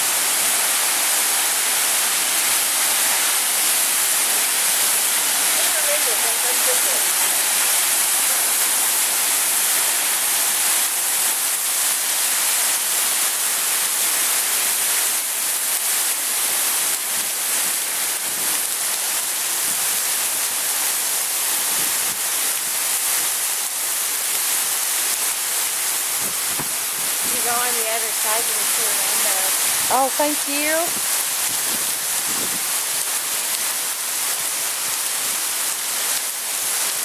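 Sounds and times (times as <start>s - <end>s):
waterfall pouring: 0.0s - 37.0s.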